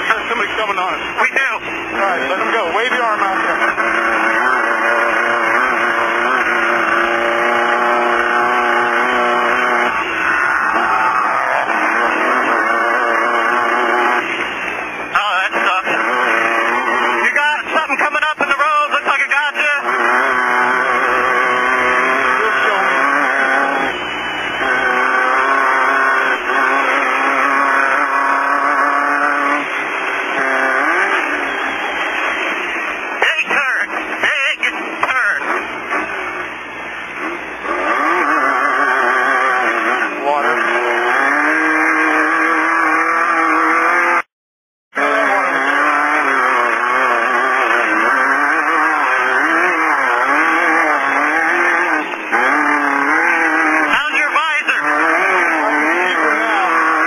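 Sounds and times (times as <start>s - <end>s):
off-road car engine running: 0.0s - 44.3s, 44.9s - 57.0s.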